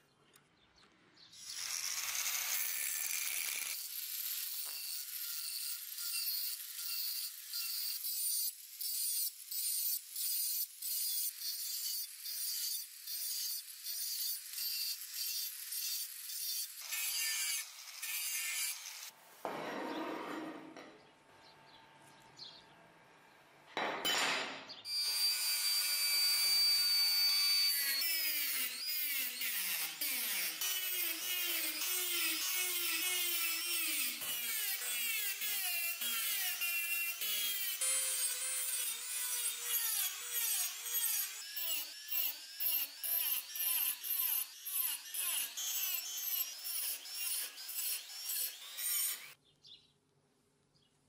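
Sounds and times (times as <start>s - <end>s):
rotary tool cutting steel: 1.4s - 19.2s, 24.9s - 49.4s.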